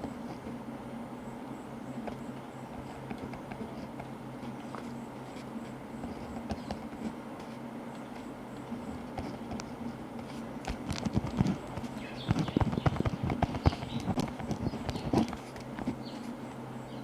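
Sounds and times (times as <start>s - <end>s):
white noise: 0.0s - 17.0s.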